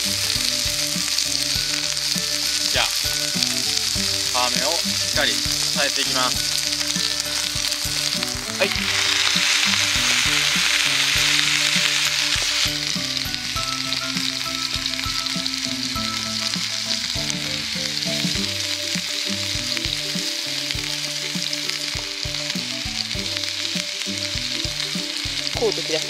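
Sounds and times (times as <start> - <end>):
chicken sizzling in frying pan: 0.0 - 26.0.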